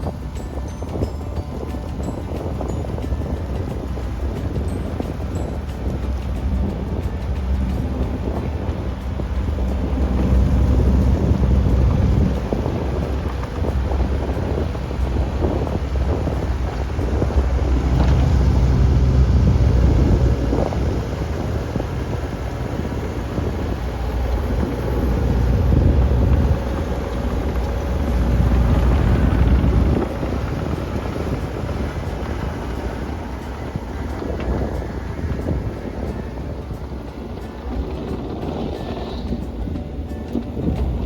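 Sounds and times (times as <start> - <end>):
excavator diesel engine running: 0.0 - 41.0
wind noise on microphone: 0.0 - 41.0.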